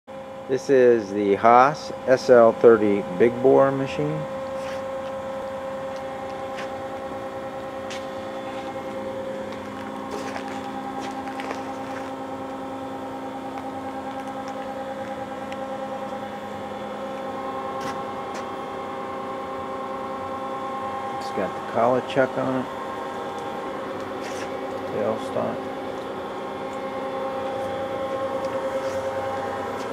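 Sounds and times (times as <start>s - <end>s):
lathe machine hum: 0.1s - 29.9s.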